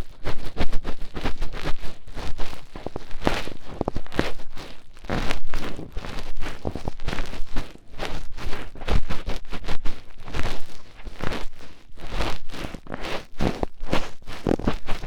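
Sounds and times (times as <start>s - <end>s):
fingertip rubbing in ear: 0.2s - 15.0s.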